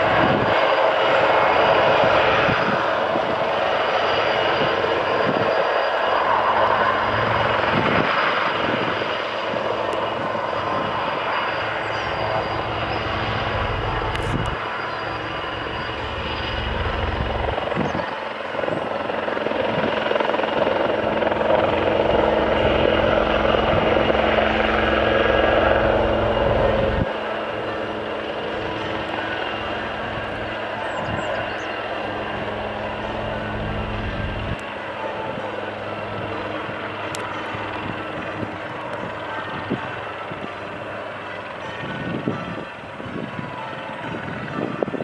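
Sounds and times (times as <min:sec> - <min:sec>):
helicopter engines whining: 0:00.0 - 0:45.0
helicopter main rotor: 0:00.0 - 0:45.0.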